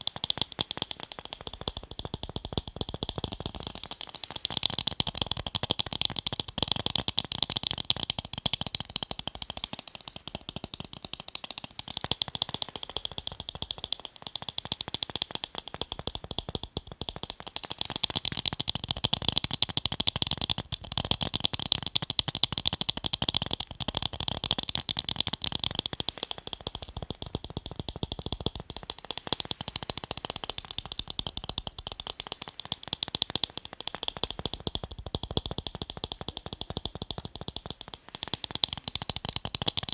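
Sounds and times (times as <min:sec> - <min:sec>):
fast tapping on eyeglasses: 0:00.0 - 0:39.9.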